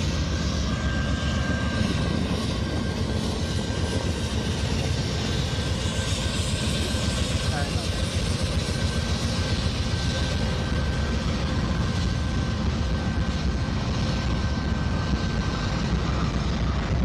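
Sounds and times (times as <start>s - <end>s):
locomotive engine rumble: 0.0s - 17.0s.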